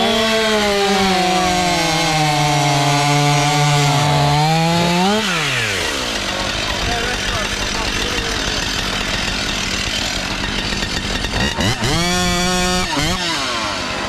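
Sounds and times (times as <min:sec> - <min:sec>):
chainsaw cutting under load: 0:00.0 - 0:14.0.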